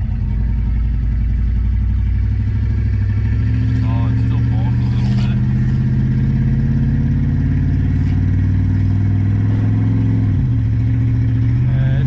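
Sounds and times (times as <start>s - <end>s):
car engine running while driving: 0.0s - 12.0s.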